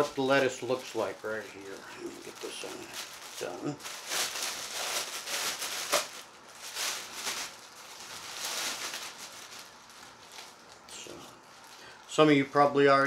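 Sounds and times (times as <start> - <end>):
packaging crinkling and rustling: 0.0 - 12.4.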